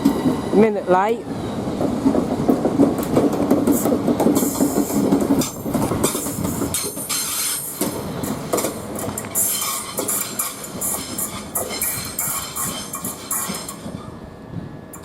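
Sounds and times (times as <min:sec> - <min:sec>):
electric train humming: 0:00.0 - 0:15.0
train wheels clicking and squealing: 0:00.0 - 0:15.0.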